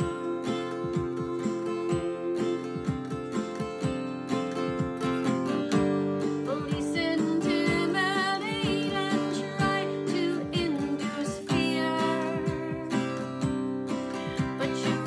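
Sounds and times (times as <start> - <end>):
woman singing: 0.0 - 3.8, 6.2 - 15.0
strummed acoustic guitar: 0.0 - 15.0.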